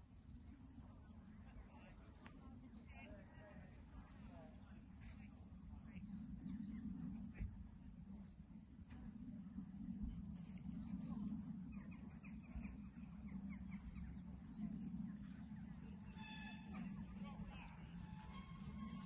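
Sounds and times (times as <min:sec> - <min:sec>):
faint birds chirping: 0:00.0 - 0:19.0
steady low rumble: 0:00.0 - 0:19.0.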